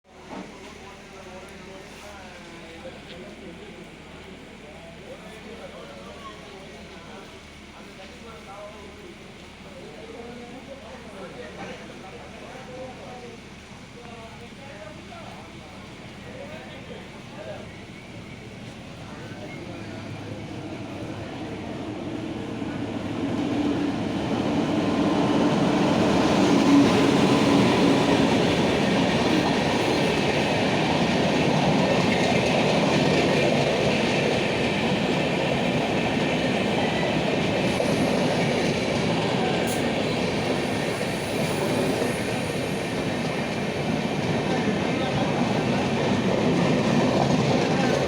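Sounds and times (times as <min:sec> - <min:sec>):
passenger train rumbling: 0:00.1 - 0:48.0.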